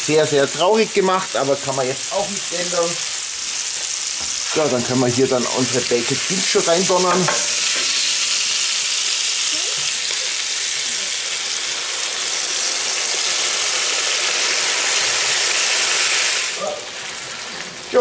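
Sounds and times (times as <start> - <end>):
bacon and onions sizzling: 0.0 - 18.0.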